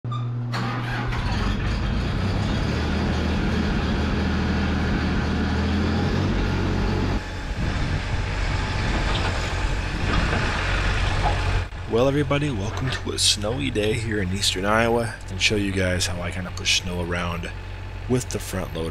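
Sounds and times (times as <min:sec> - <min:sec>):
tractor diesel engine idling: 0:00.6 - 0:18.9.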